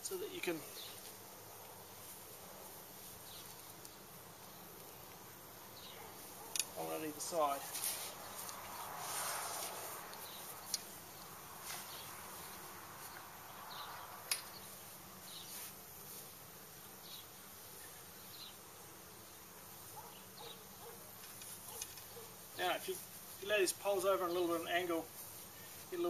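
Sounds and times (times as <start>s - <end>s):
flying insect buzzing: 0.0s - 26.0s.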